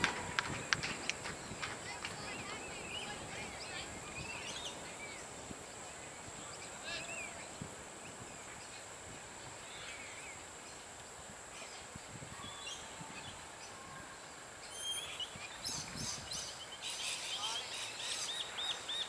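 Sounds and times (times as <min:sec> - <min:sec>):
birds chirping: 0:00.0 - 0:11.0, 0:14.6 - 0:19.0
outdoor background hiss: 0:00.0 - 0:19.0.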